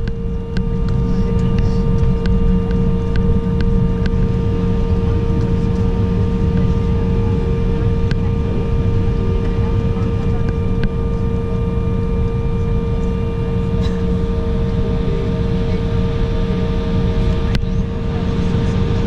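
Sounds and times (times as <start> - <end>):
jet cabin rumble and hum: 0.0 - 19.0.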